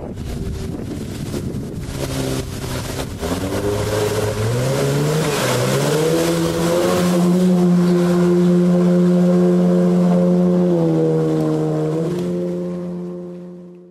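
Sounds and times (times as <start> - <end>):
outboard motor revving: 0.0 - 13.9.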